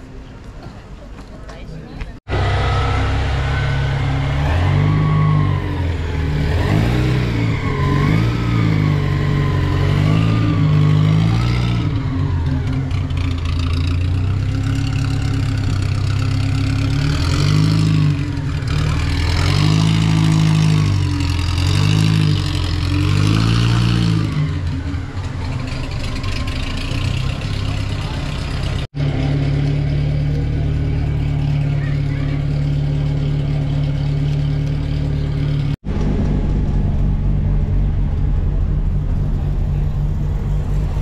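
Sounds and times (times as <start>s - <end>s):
car engine revving: 2.3s - 41.0s.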